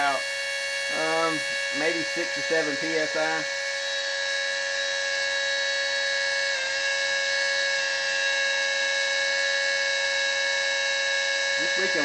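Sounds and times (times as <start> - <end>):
electric pump whining: 0.0 - 12.0.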